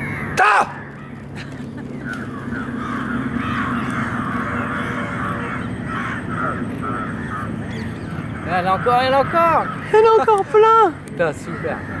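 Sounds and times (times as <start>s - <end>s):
birds cawing in chorus: 0.0s - 12.0s.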